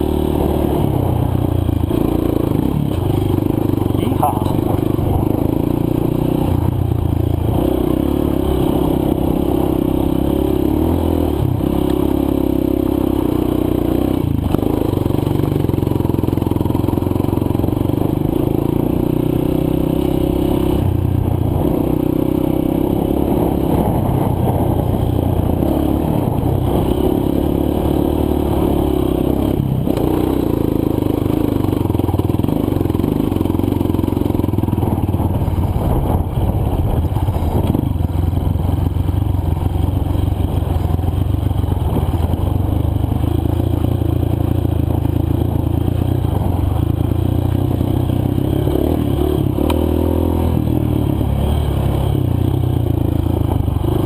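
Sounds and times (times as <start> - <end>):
dirt bike engine running under load: 0.0 - 54.0.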